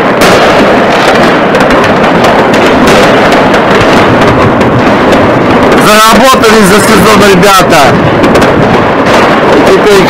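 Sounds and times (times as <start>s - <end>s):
fireworks and firecrackers banging: 0.0s - 10.0s.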